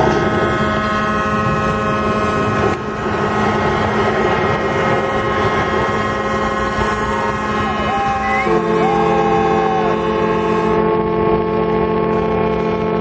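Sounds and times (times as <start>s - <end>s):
loud steady rush of noise: 0.0s - 13.0s
steady held tones: 0.0s - 13.0s.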